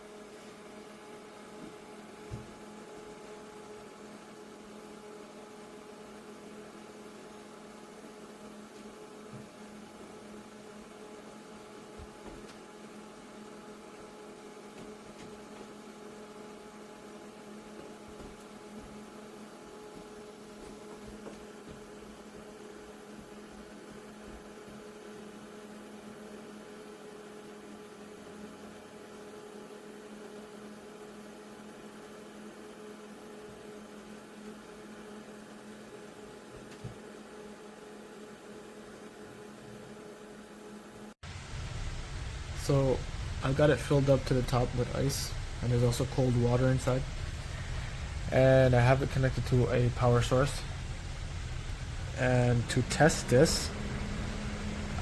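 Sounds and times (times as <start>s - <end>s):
small fan motor humming: 0.0s - 55.0s.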